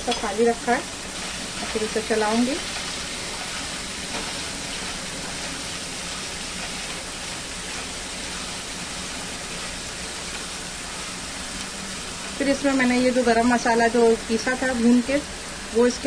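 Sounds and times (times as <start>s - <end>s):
spatula stirring in a pan: 0.0s - 13.1s
chicken sizzling in oil: 0.0s - 16.0s.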